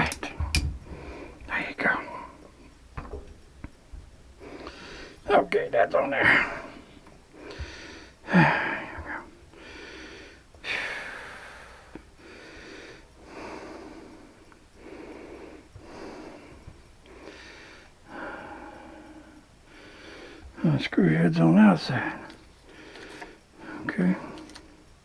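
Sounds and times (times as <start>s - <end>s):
man breathing heavily: 0.0s - 2.5s, 4.4s - 5.3s, 6.2s - 20.6s, 21.9s - 24.9s.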